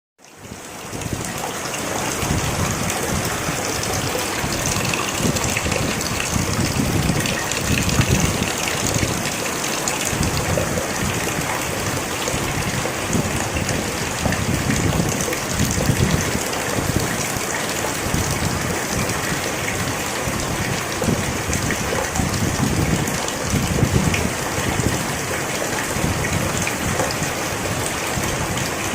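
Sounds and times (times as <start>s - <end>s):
steady rain falling: 0.2s - 28.9s.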